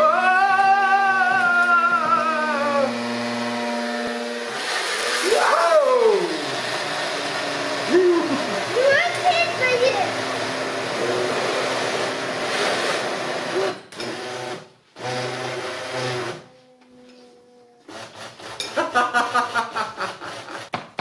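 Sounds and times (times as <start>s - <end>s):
small blender motor running: 0.0s - 16.6s, 17.8s - 20.7s.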